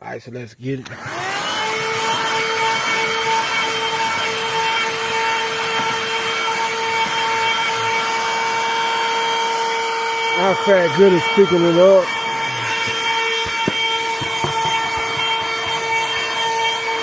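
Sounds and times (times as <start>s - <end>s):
vacuum cleaner running: 0.8s - 17.0s.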